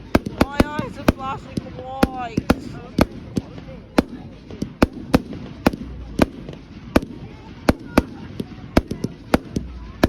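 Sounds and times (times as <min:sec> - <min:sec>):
distant fireworks din: 0:00.0 - 0:10.0
fireworks sharp bangs: 0:00.0 - 0:10.0.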